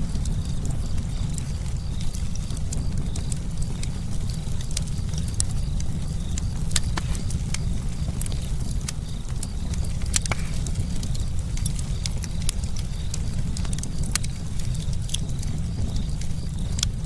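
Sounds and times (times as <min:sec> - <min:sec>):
campfire rumble: 0:00.0 - 0:17.0
wood crackling and popping: 0:00.0 - 0:17.0.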